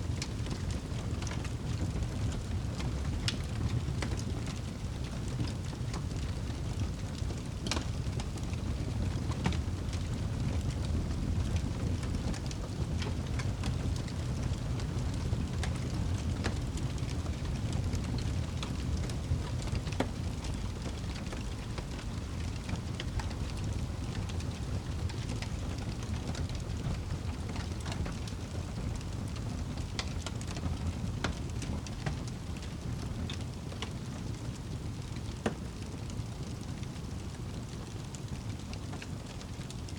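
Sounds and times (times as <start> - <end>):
fire low rumble: 0.0 - 39.9
wood fire pops and crackles: 0.0 - 39.9.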